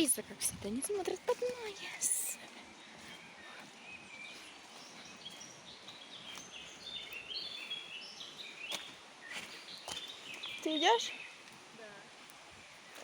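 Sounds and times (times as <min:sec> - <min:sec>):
faint outdoor noise: 0:00.0 - 0:13.0
small birds chirping: 0:00.0 - 0:13.0.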